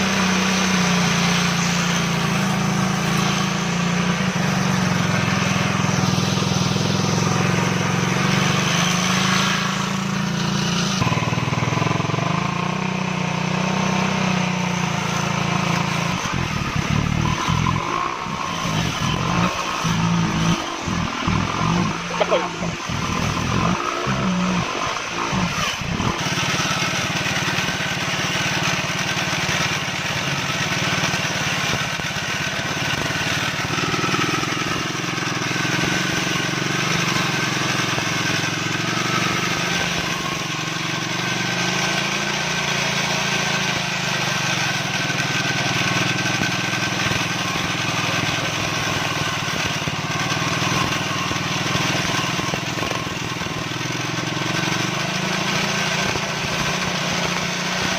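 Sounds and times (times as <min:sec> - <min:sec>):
brush cutter engine running: 0:00.0 - 0:57.9.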